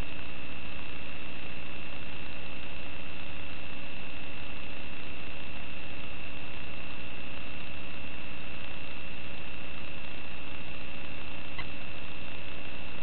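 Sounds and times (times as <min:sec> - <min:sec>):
electrical hiss and hum: 0:00.0 - 0:13.0
high-pitched whine: 0:00.0 - 0:13.0.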